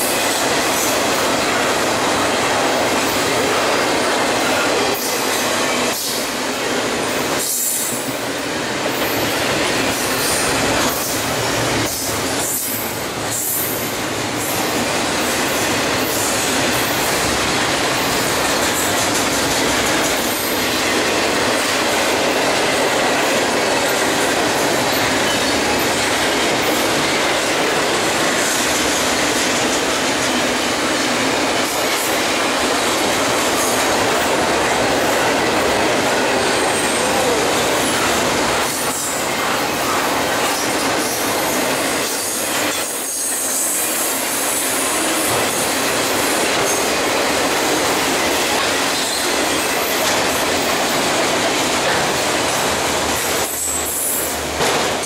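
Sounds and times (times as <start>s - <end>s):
steel train wheels on rail: 0.0s - 55.0s.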